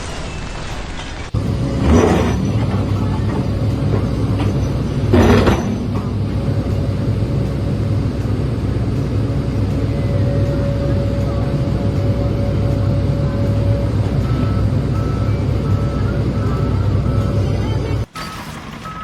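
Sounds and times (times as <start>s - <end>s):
heavy machinery engine rumbling: 0.0s - 19.0s.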